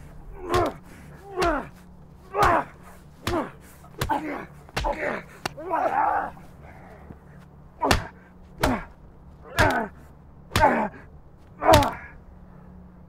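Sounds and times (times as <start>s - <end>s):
heavy blows: 0.0s - 12.2s
short pained cries: 0.3s - 7.1s, 7.8s - 12.2s.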